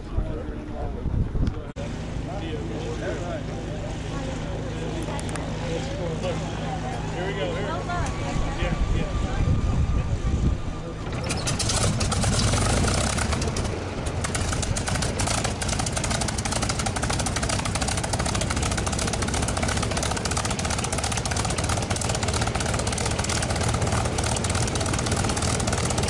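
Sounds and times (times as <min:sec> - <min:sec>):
aircraft engine starting and idling: 0:01.8 - 0:26.0.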